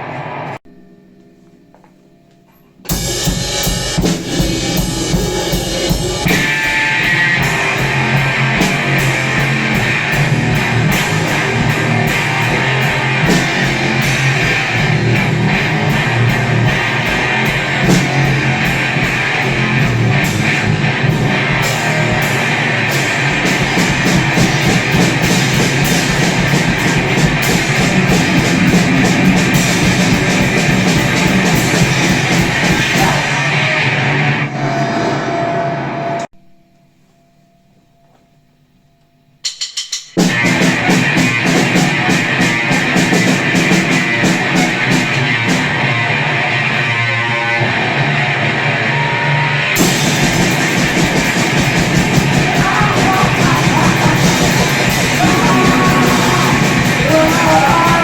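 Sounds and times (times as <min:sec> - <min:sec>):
drum kit playing: 0:02.9 - 0:33.8, 0:39.4 - 0:48.7, 0:49.6 - 0:58.0
distorted electric guitar: 0:02.9 - 0:36.1, 0:40.2 - 0:58.0.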